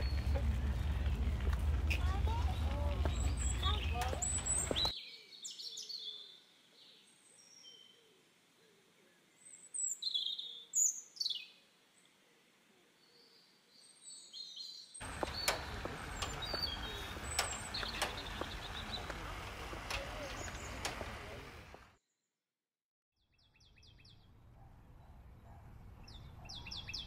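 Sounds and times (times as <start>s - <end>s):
outdoor background noise: 0.0s - 22.0s, 23.2s - 27.0s
small birds chirping: 0.0s - 22.0s, 23.2s - 27.0s.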